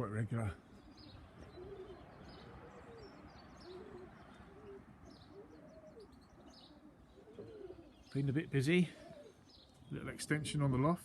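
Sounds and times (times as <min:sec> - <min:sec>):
small birds chirping: 0:00.0 - 0:11.0
pigeons cooing: 0:00.4 - 0:10.1.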